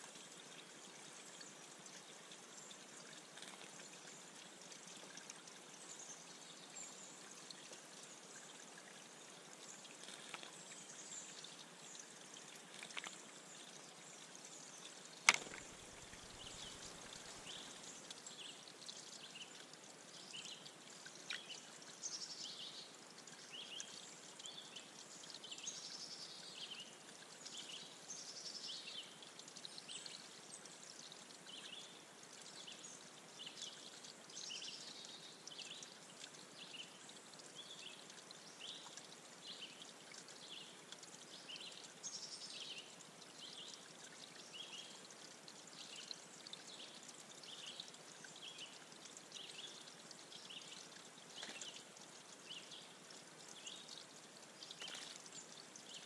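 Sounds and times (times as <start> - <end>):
water trickling over rocks: 0.0 - 56.0.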